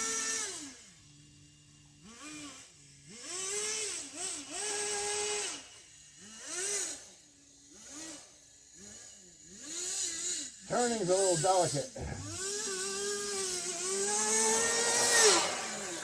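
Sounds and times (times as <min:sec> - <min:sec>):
small nitro engine revving: 0:00.0 - 0:16.0.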